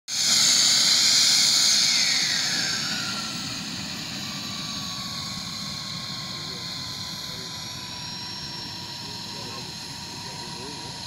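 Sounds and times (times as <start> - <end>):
model jet turbine whining: 0.1 - 11.0.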